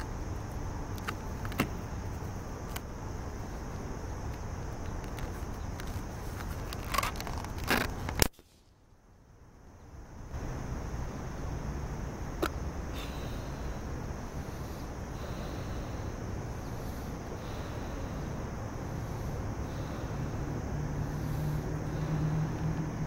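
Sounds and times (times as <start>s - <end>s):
distant city traffic: 0.0s - 8.2s, 9.4s - 23.0s
wind: 0.0s - 23.0s.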